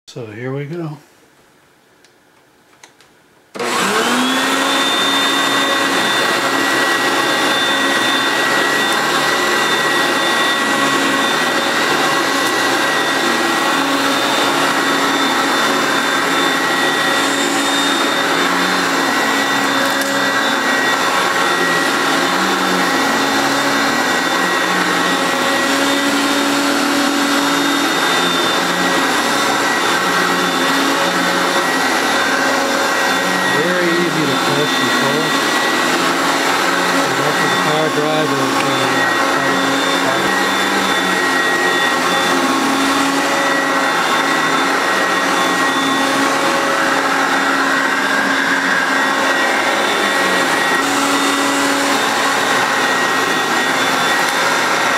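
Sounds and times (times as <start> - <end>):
upright vacuum cleaner whining: 3.5 - 54.9.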